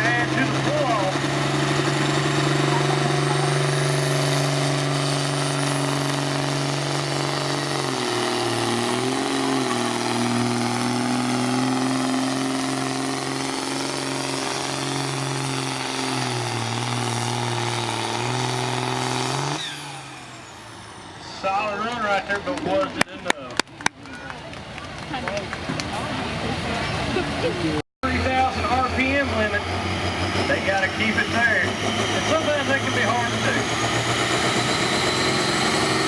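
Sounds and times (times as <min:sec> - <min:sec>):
diesel engine at full throttle: 0:00.0 - 0:36.0.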